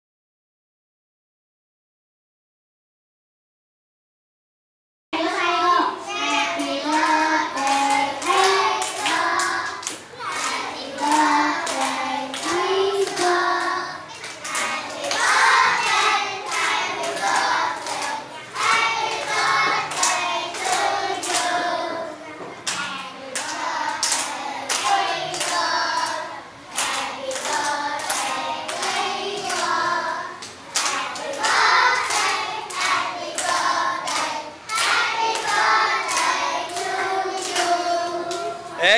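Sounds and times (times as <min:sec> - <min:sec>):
children singing: 0:05.4 - 0:38.9
children clapping in time: 0:06.2 - 0:21.9, 0:22.6 - 0:38.9.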